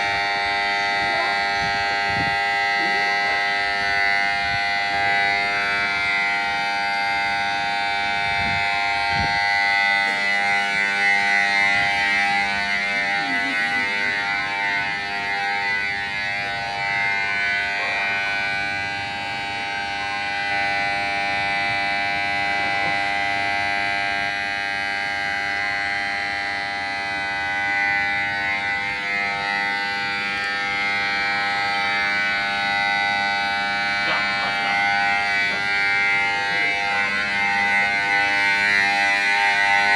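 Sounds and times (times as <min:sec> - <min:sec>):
electronic alarm chord: 0:00.0 - 0:39.9.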